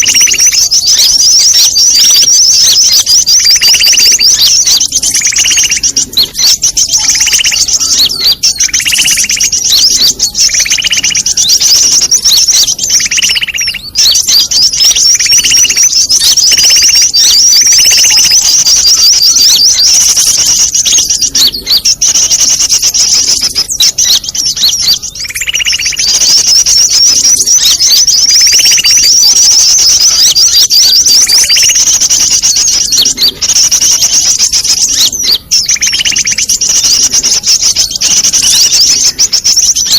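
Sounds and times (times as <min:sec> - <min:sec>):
lower bird call: 0:00.0 - 0:39.9
small birds chirping and trilling: 0:00.0 - 0:39.9.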